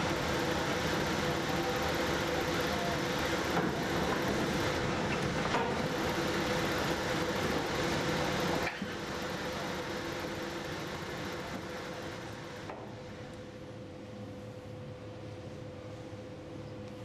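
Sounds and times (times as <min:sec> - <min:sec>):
ship machinery drone: 0:00.0 - 0:17.0.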